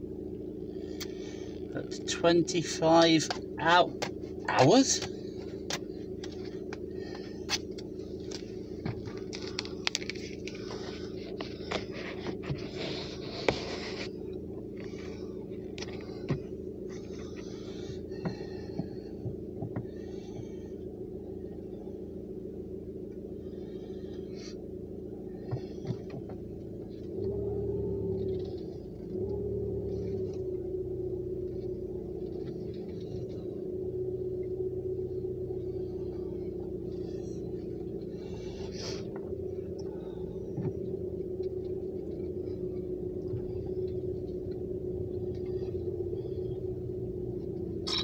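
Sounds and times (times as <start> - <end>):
deep hum: 0.0 - 48.0
low hum in car cabin: 0.0 - 48.0.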